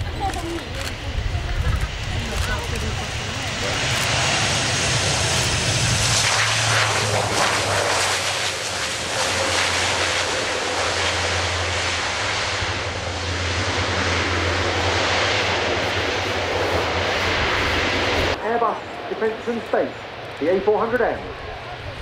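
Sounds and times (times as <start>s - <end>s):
propeller hum: 0.0s - 22.0s
rushing engine noise: 0.0s - 22.0s.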